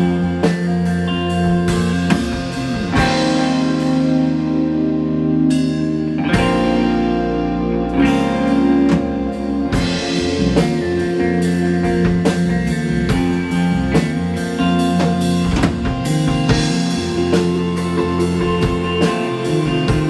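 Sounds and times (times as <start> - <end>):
drum kit with cymbal hits: 0.0 - 20.0
electric guitars ringing: 0.0 - 20.0.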